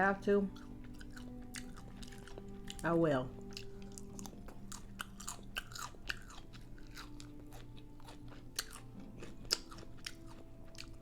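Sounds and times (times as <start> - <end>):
chewing crunchy food: 0.5 - 11.0.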